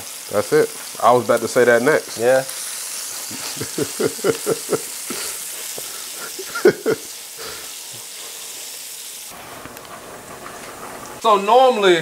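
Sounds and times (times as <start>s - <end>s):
sausage sizzling in a pan: 0.0s - 12.0s.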